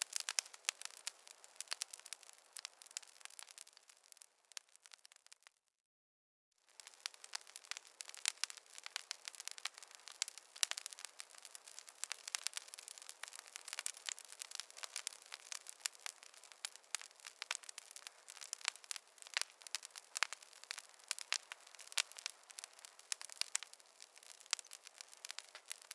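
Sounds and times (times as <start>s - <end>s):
soft steady hiss: 0.0s - 5.4s, 6.6s - 25.9s
campfire crackling and popping: 0.0s - 5.6s, 6.6s - 25.9s.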